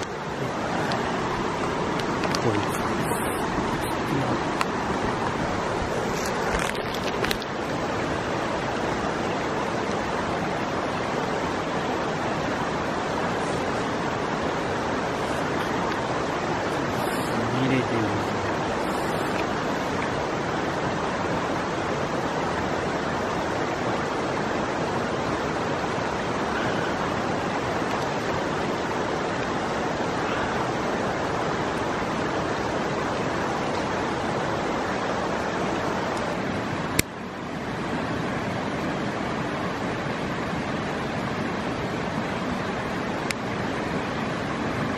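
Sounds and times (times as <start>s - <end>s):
mountain river rushing: 0.0s - 44.9s.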